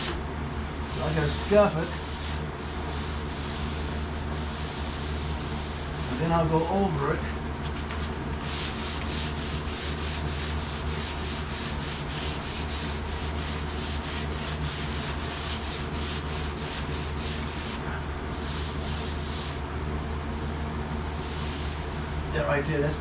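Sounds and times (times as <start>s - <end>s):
steady low hum: 0.0s - 23.0s
hand sanding sheet metal: 0.8s - 7.0s, 8.4s - 19.7s, 20.4s - 22.3s.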